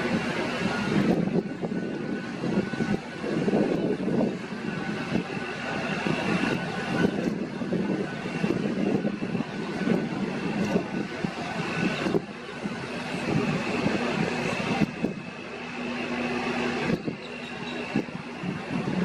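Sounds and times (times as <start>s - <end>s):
faint high whine: 0.0s - 19.0s
low engine rumble: 0.0s - 19.0s.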